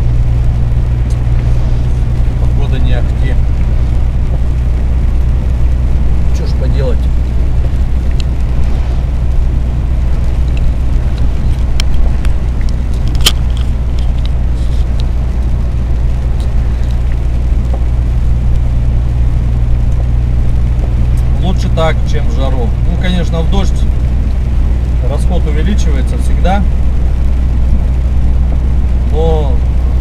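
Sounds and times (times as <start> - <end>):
diesel engine low drone: 0.0 - 30.0.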